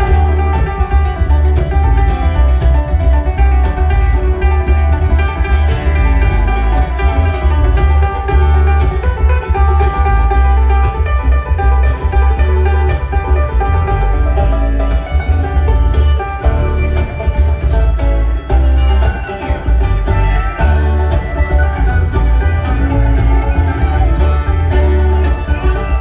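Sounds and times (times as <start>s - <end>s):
banjo picking: 0.0s - 26.0s
bluegrass string band playing: 0.0s - 26.0s
upright bass: 0.0s - 26.0s.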